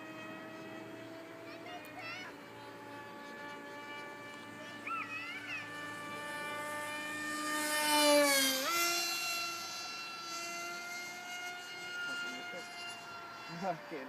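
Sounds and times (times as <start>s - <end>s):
electric motor and propeller whining: 0.0s - 14.0s.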